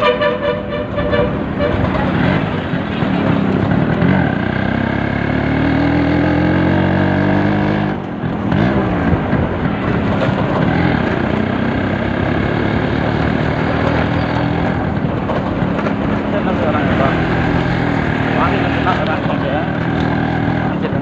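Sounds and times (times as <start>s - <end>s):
motorcycle engine revving: 1.0s - 21.0s.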